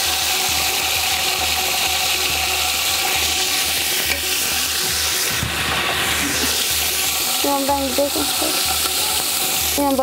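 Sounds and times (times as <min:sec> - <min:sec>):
oil sizzling in metal pot: 0:00.0 - 0:10.0.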